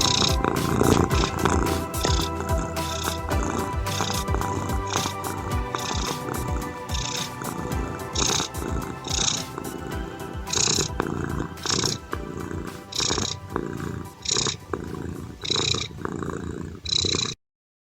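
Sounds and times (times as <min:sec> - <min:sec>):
cat purring: 0:00.0 - 0:09.9, 0:10.5 - 0:17.4
slow ambient music: 0:00.0 - 0:16.4.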